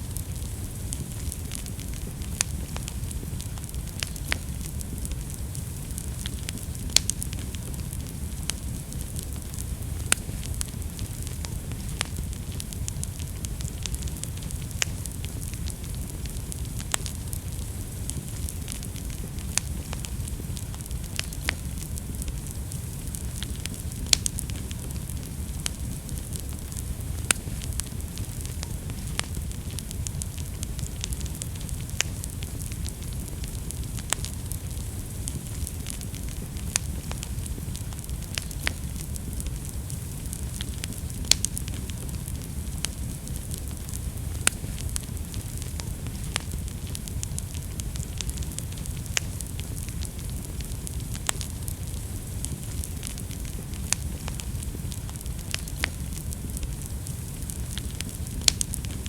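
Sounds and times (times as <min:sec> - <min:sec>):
fire flames rumbling: 0:00.0 - 0:59.0
wood fire popping and crackling: 0:00.0 - 0:59.0.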